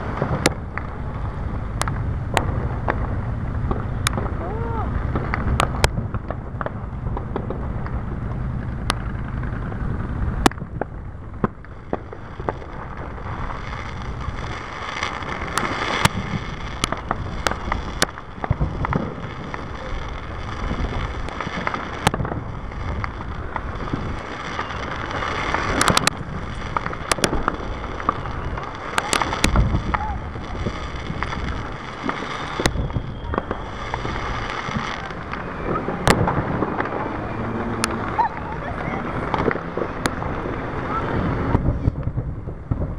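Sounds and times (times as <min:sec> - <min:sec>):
fireworks bangs and crackles: 0:00.0 - 0:42.9
low rumble: 0:00.0 - 0:42.9.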